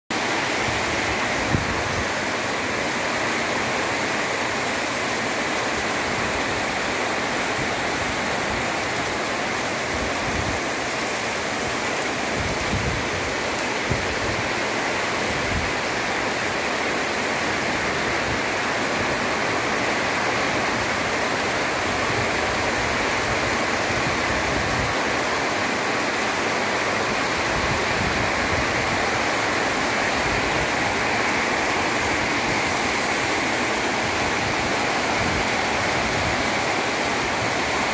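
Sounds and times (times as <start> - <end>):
heavy rain on roofs: 0.1 - 37.9
wind gusts on microphone: 0.2 - 4.4, 5.2 - 16.5, 17.3 - 25.5, 26.4 - 37.9.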